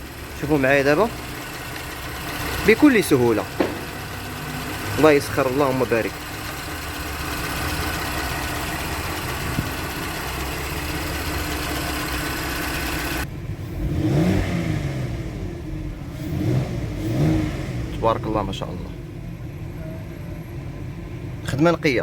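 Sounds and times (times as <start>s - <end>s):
gearbox changing gear: 0.0s - 18.7s
car engine under load: 0.0s - 22.0s.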